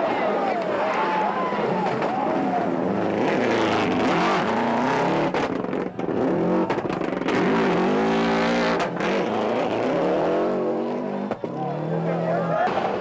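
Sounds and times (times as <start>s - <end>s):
rally car engine revving: 1.6s - 13.0s.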